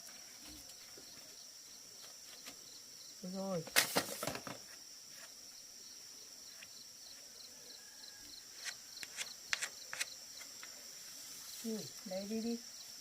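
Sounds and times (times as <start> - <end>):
insect chirps: 0.0 - 13.0
insects buzzing: 0.0 - 13.0.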